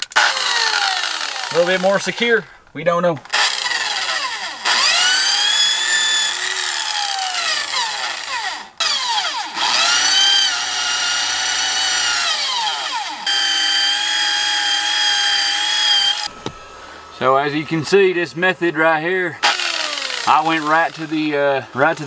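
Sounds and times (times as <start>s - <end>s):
electric drill motor whine: 0.0s - 2.2s, 3.2s - 18.1s, 19.4s - 21.8s.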